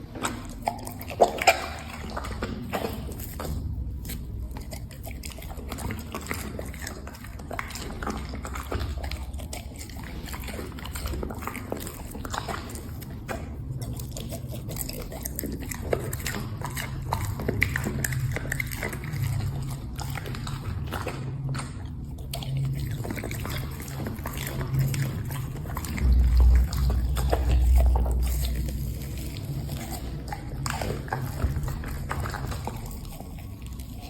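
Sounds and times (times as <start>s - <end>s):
dog chewing food: 0.0s - 34.0s.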